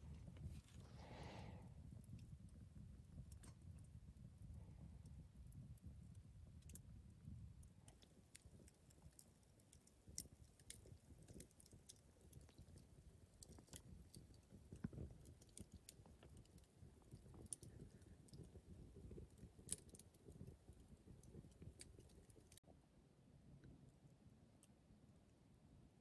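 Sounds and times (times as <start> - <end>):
firewood crackling: 0.0 - 22.6.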